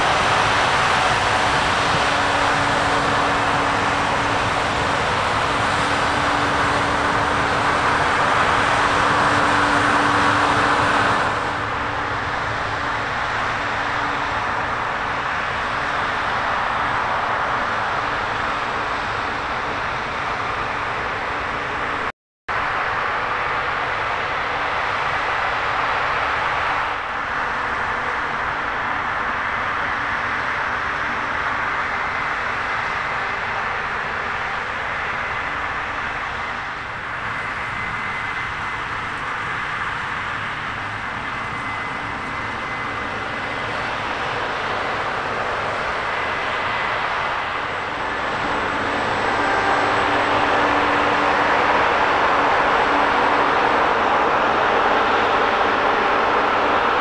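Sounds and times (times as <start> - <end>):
combine harvester running: 0.0 - 22.0, 22.6 - 57.0.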